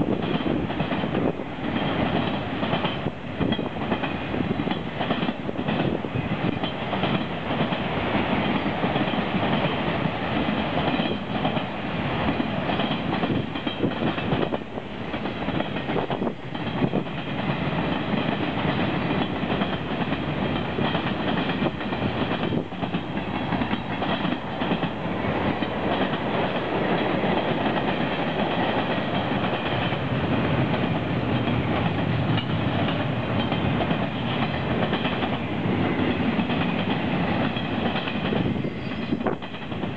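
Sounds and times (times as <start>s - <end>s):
train wheels rumbling on rails: 0.0s - 39.9s
wheels clickety-clack over joints: 0.0s - 39.9s.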